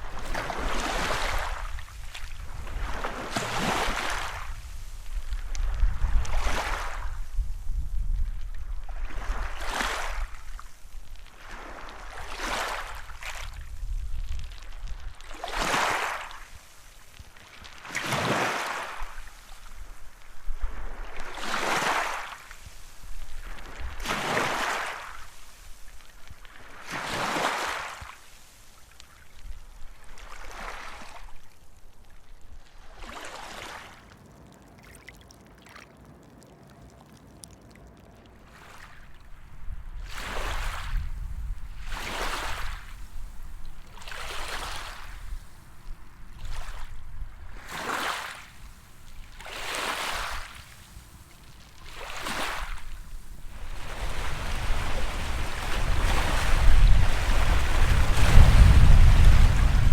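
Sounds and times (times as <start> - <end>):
small waves washing on shore: 0.0 - 59.9.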